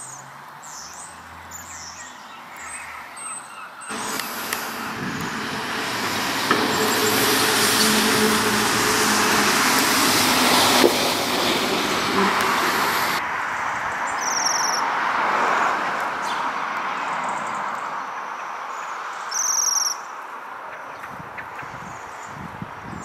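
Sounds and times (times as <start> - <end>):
traffic noise: 0.0 - 23.0.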